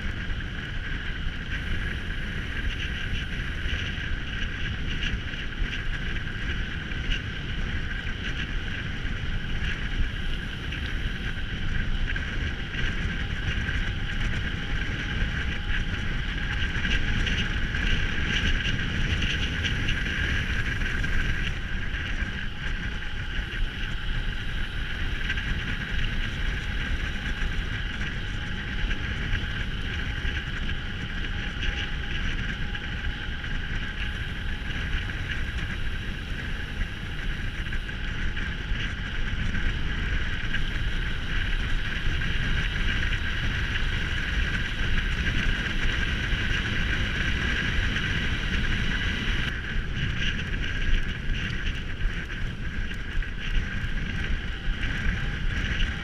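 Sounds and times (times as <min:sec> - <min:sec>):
tyres rumbling on trail: 0:00.0 - 0:56.0
wind buffeting microphone: 0:00.0 - 0:56.0.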